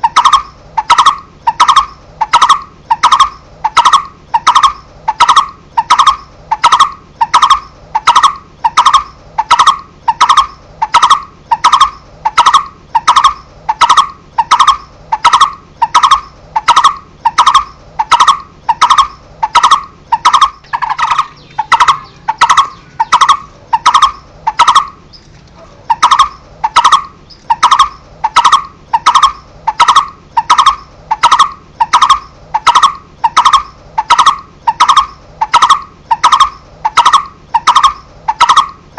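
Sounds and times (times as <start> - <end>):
barbet calling hollow tuk notes: 0.0 - 25.0, 25.7 - 38.9.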